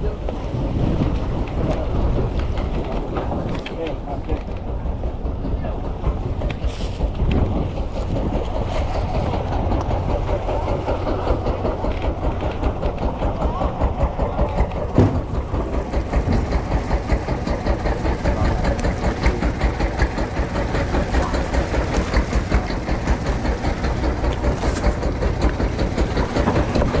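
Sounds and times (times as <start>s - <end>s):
marine diesel engine running: 0.0s - 27.0s.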